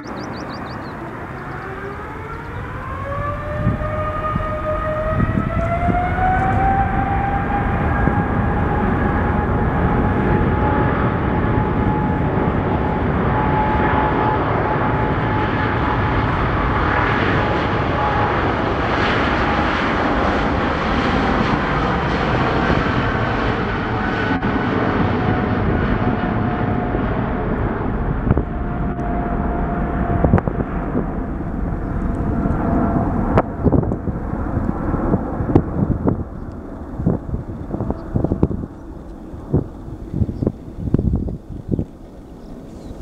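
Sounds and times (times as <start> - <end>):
heavy jet roar: 0.0 - 43.0
jet engine whine: 0.0 - 43.0.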